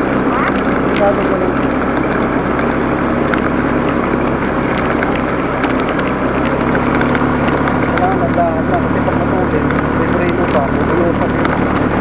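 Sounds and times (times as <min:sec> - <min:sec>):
motorcycle engine running: 0:00.0 - 0:12.0
road and wind noise: 0:00.0 - 0:12.0
small knocks and clicks: 0:00.0 - 0:12.0.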